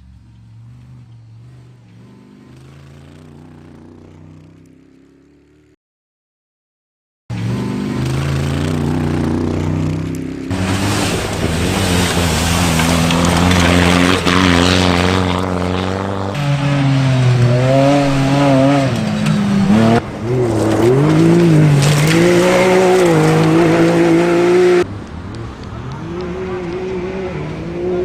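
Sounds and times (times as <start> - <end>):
rally car engines revving: 0.0 - 5.7, 7.3 - 28.0.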